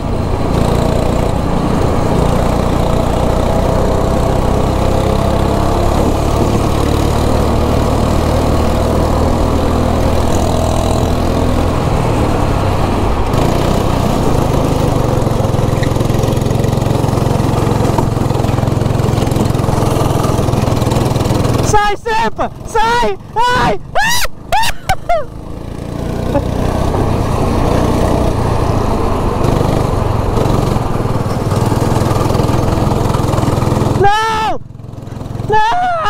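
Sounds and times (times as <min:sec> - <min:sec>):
kart engine drone: 0:00.0 - 0:36.0.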